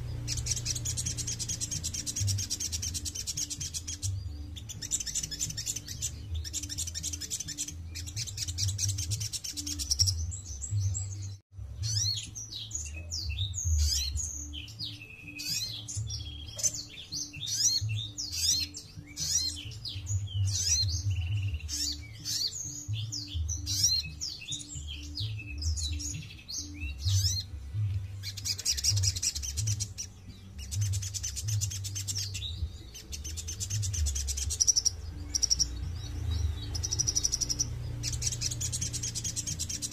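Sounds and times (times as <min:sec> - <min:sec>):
bird singing trills and chirps: 0:00.0 - 0:39.9.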